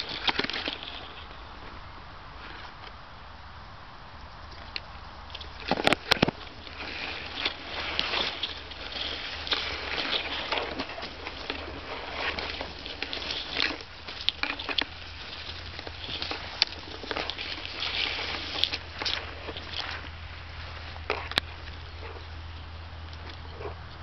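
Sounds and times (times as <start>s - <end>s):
sharp clicks of grass stems: 0.0s - 1.4s, 4.4s - 24.0s
faint low hum: 0.0s - 24.0s
tall grass rustling: 0.0s - 24.0s.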